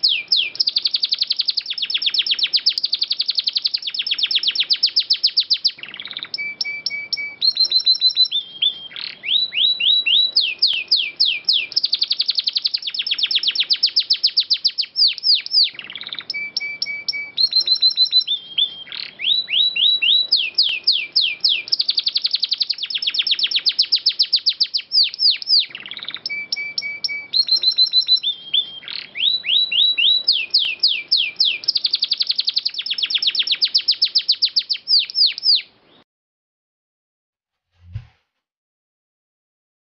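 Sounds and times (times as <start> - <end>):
canary singing: 0.0 - 36.0.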